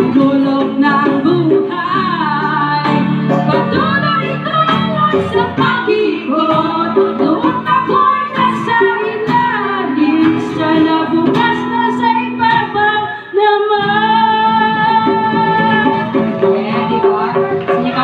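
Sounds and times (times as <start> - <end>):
hand drum: 0.0 - 12.9, 13.8 - 18.0
acoustic guitar: 0.0 - 18.0
women singing: 0.0 - 18.0.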